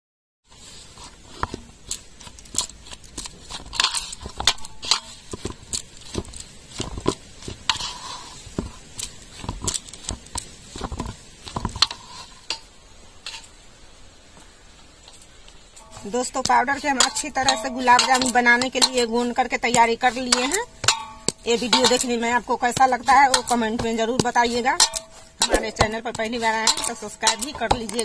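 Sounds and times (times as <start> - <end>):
dough kneaded in metal bowl: 0.5 - 13.5, 15.8 - 28.0.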